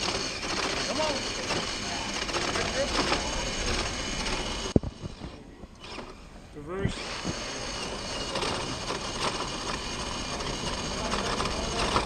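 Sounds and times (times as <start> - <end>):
electric motor and gearbox whirring: 0.0 - 12.0.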